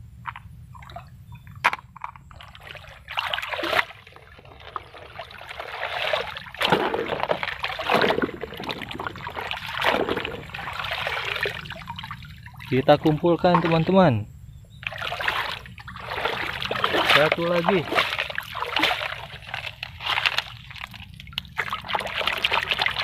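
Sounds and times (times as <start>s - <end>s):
stream water splashing: 2.2s - 14.2s, 14.8s - 23.0s.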